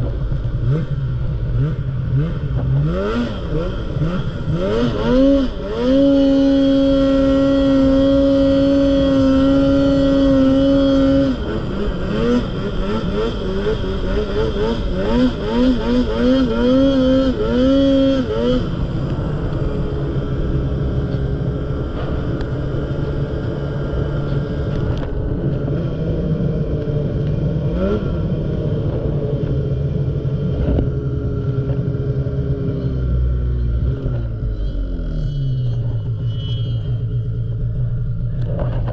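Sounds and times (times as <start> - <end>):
snowmobile engine revving: 0.1 - 38.9.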